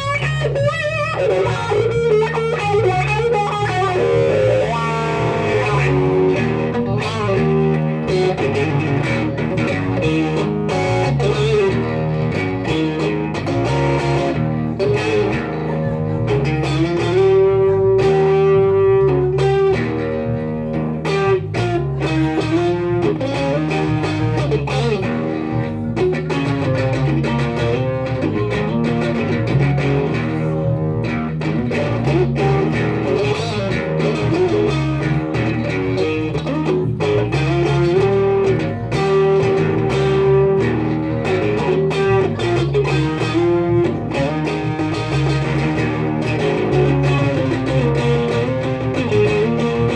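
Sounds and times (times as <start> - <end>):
electric guitar lead lines: 0.0 - 49.9
repeating bass line: 0.0 - 49.9.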